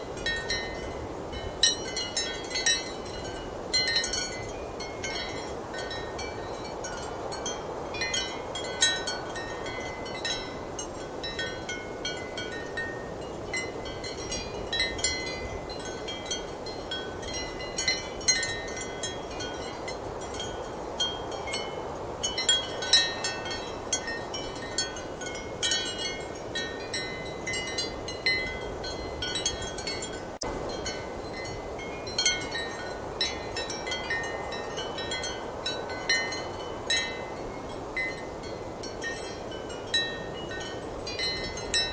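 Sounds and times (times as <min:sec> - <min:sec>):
ceramic wind chimes clinking: 0:00.0 - 0:41.9.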